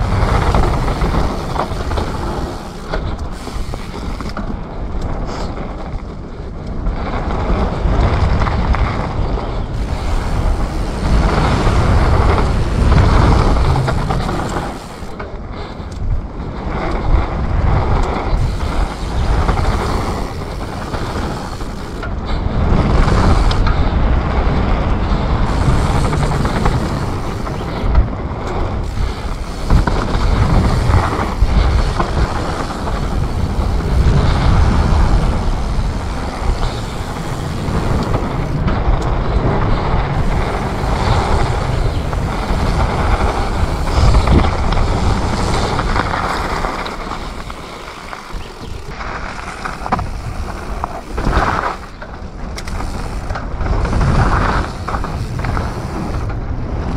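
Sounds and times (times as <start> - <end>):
bike chain and suspension rattling: 0.0 - 56.9
tyres rolling on dirt: 0.0 - 56.9
wind rushing over microphone: 0.0 - 56.9.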